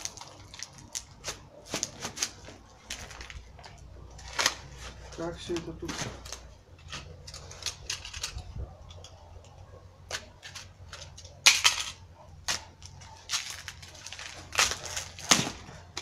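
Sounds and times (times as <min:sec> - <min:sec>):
packaging wrap crinkling: 0:00.0 - 0:09.1, 0:10.1 - 0:16.0.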